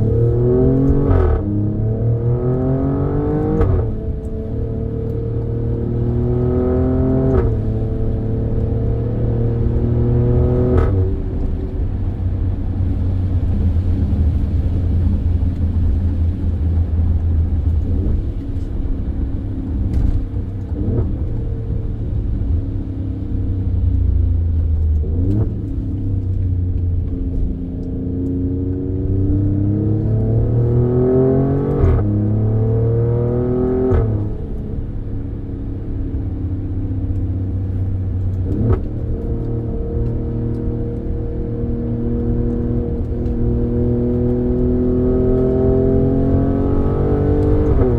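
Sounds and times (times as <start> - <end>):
car engine accelerating: 0.0 - 47.9.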